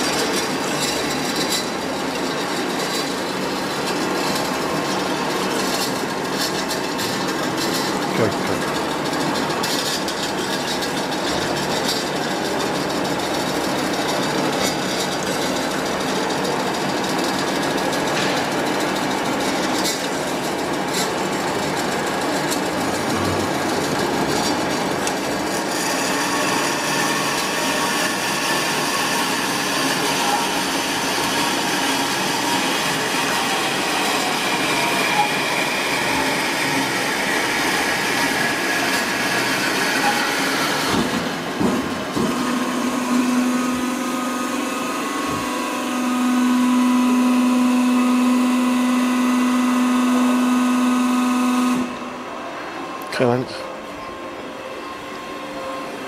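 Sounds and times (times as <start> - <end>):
bandsaw running: 0.0 - 52.1.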